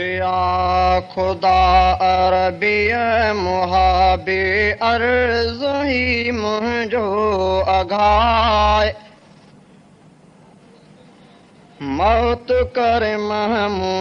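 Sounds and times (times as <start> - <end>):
man singing devotional song: 0.0 - 9.2, 11.8 - 14.0.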